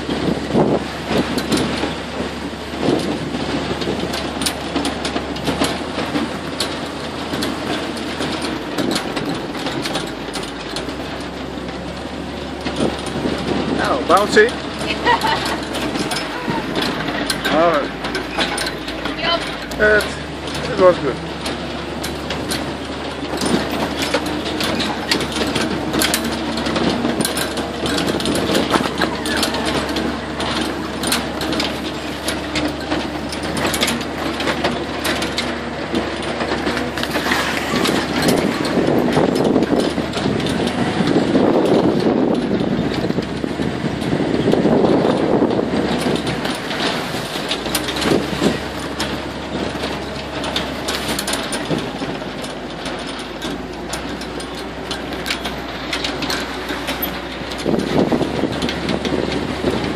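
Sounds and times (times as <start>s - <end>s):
engine droning: 0.0s - 59.9s
vehicle frame rattling: 0.0s - 59.9s.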